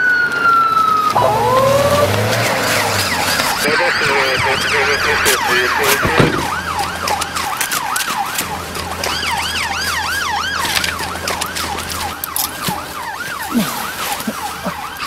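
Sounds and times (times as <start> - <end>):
higher siren: 0.0 - 15.0
police siren yelping: 0.0 - 15.0.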